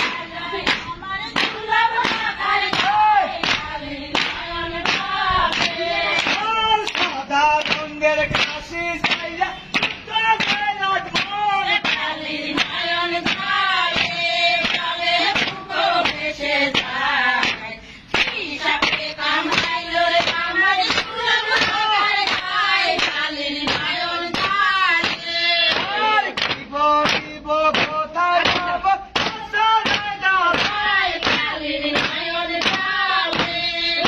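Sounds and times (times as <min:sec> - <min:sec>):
women singing in chorus: 0:00.0 - 0:34.0.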